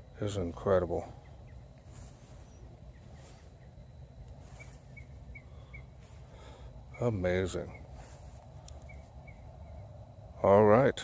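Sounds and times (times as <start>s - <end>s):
cricket chirping: 0.0s - 11.0s
steady low rumble: 0.0s - 11.0s.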